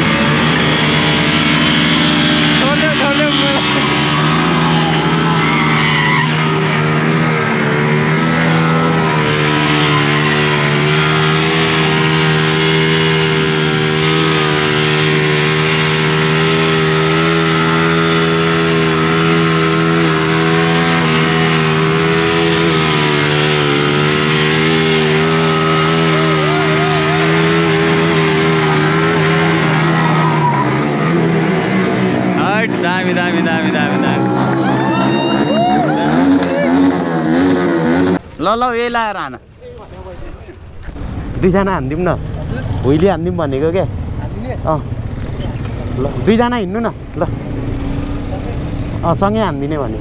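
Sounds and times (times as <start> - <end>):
motorcycle engine at high revs: 0.0 - 34.7, 35.5 - 39.0, 40.5 - 50.0
tyre screeching on asphalt: 0.0 - 41.4.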